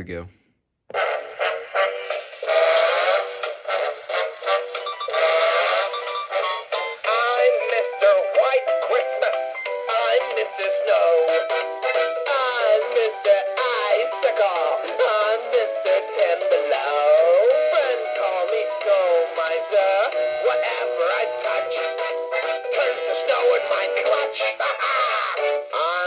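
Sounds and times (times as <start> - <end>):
toy speaker playing christmas song: 0.9 - 26.0.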